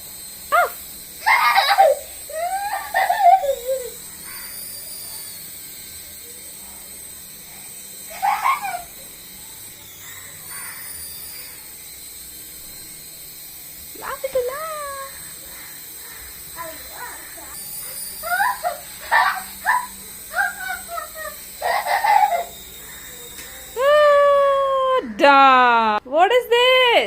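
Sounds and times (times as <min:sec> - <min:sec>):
toy helicopter motor whine: 0:00.0 - 0:27.0.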